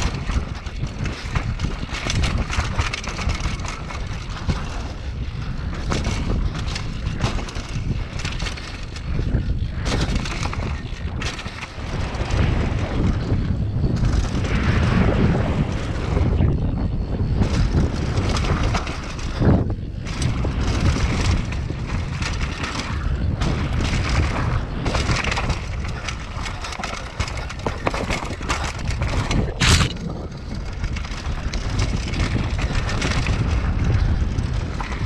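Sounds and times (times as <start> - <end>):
bike clattering: 0.0 - 35.0
tyres rolling on dirt and stones: 0.0 - 35.0
wind buffeting microphone: 0.0 - 35.0.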